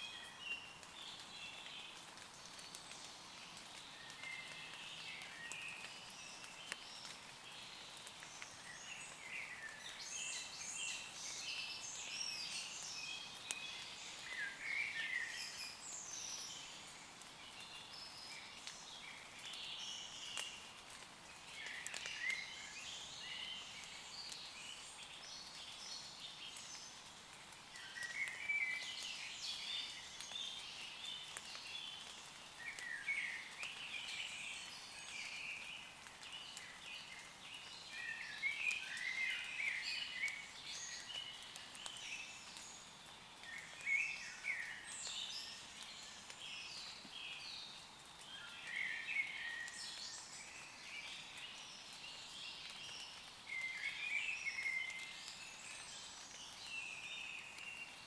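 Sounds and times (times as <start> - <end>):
light rain hiss: 0.0 - 58.0
raindrops ticking: 0.7 - 16.1, 16.7 - 58.0.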